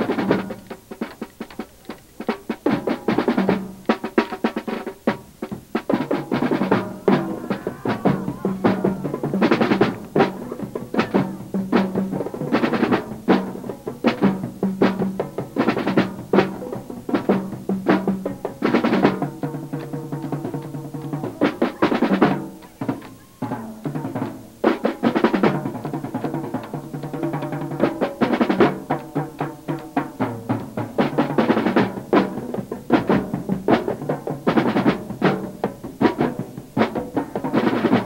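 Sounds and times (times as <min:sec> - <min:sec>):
marching tom drum rolls: 0:00.0 - 0:38.0.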